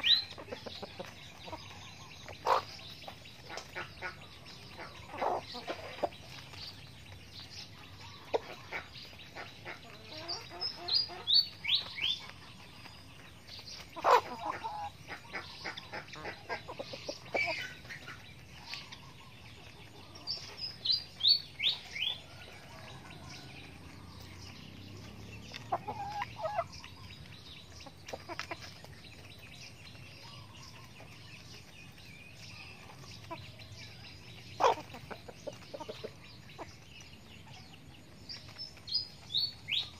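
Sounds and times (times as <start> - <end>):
chickens clucking: 0.0 - 39.9
small bird chirping: 0.0 - 39.9.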